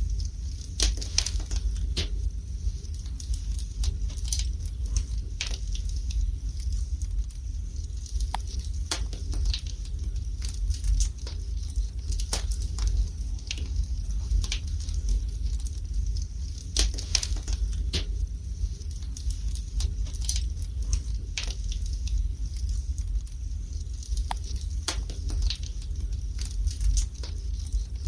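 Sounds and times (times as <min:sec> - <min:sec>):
low steady rumble: 0:00.0 - 0:28.0
wood fire crackling and popping: 0:00.0 - 0:28.0.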